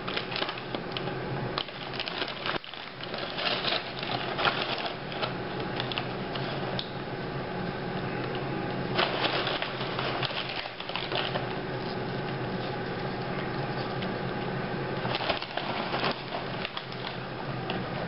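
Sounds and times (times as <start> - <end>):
rapid crackling and rustling: 0.0 - 7.0, 7.6 - 18.0
appliance hum: 0.0 - 18.0.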